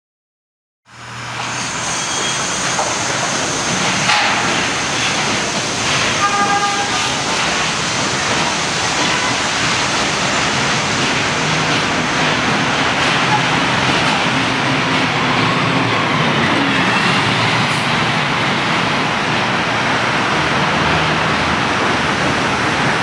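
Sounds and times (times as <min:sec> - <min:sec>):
bus engine rumbling: 0:00.9 - 0:23.0
street traffic: 0:00.9 - 0:23.0.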